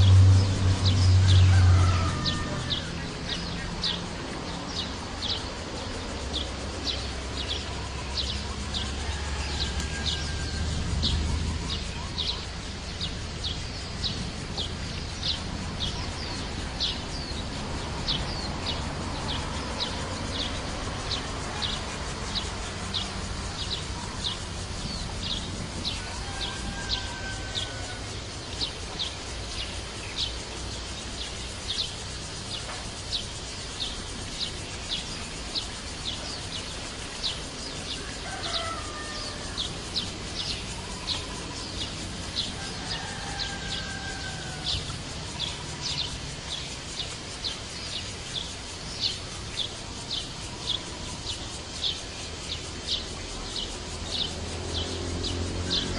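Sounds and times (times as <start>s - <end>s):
background hiss: 2.1s - 55.8s.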